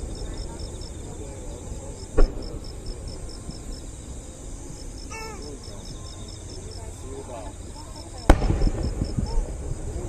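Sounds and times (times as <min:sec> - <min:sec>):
high insect trill: 0:00.0 - 0:10.0
insects chirping: 0:00.0 - 0:10.0.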